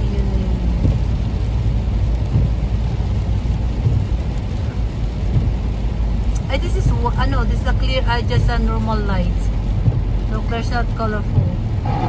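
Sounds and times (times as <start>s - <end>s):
rain and spray hiss: 0.0s - 12.0s
tyres and engine rumble: 0.0s - 12.0s.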